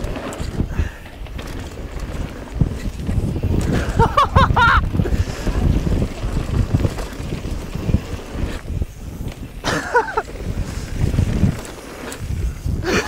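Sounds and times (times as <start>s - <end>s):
mountain bike rumbling on trail: 0.0s - 13.0s
wind buffeting microphone: 0.0s - 13.0s.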